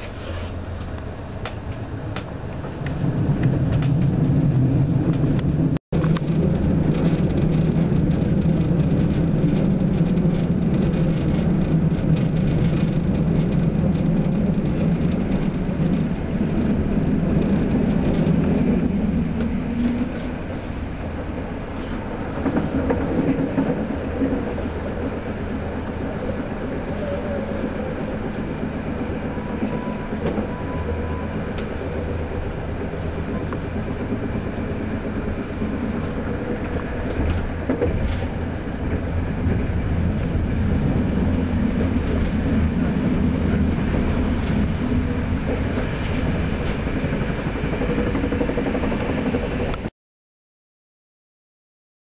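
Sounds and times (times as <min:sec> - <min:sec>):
train wheels rumbling on track: 0:00.0 - 0:49.9.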